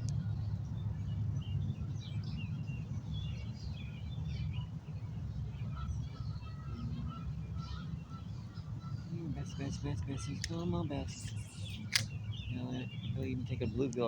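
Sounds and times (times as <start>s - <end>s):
birds chirping: 0.0s - 14.0s
wind noise on microphone: 0.0s - 14.0s.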